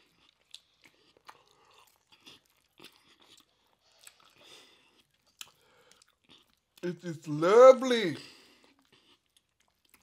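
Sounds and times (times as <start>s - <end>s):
chewing mouth clicks: 0.0s - 6.9s, 8.6s - 10.0s.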